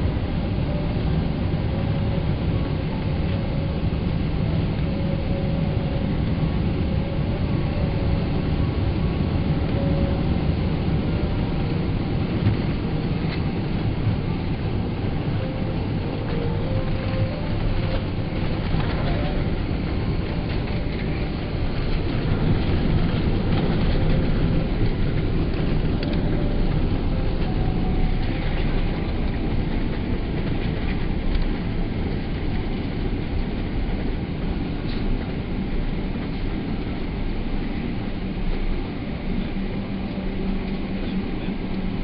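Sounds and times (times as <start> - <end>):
jet engines running: 0.0 - 42.0
wheels rumbling on pavement: 0.0 - 42.0.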